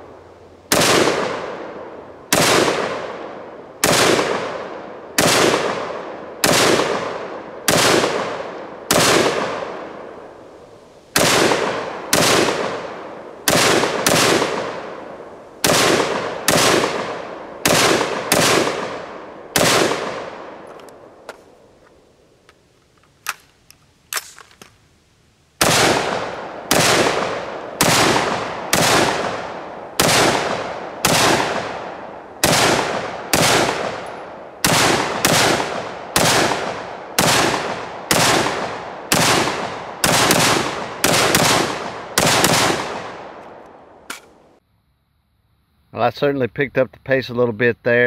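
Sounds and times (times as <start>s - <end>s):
rifle shots: 0.7s - 21.4s, 25.6s - 44.4s.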